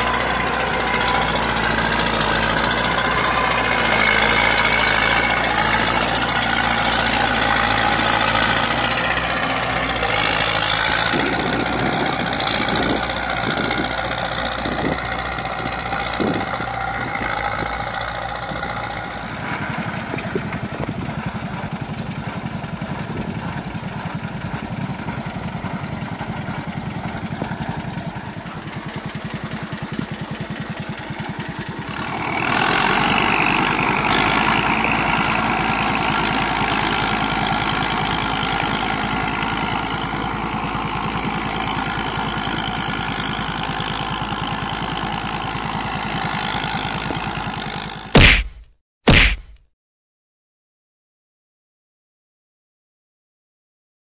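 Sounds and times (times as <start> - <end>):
tractor diesel engine under load: 0.0 - 49.6.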